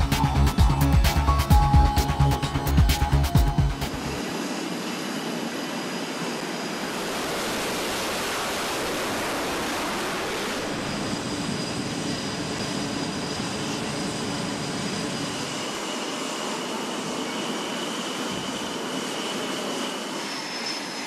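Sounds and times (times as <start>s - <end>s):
jet engines rushing: 0.0s - 21.0s.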